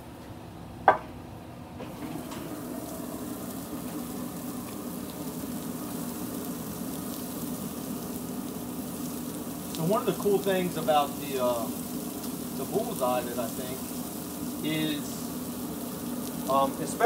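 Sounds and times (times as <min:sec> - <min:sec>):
food sizzling on a grill: 0:01.9 - 0:17.0.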